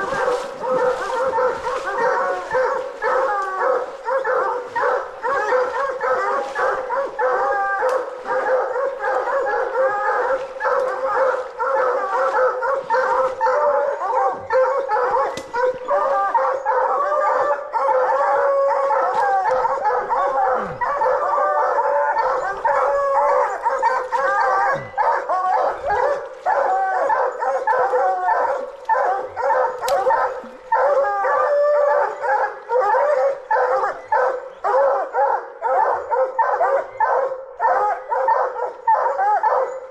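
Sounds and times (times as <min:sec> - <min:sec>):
hounds bawling and barking: 0:00.0 - 0:39.9.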